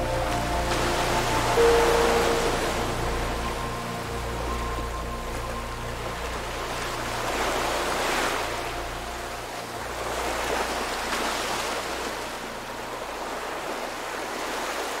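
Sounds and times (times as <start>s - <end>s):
ocean surf breaking on beach: 0.0s - 15.0s.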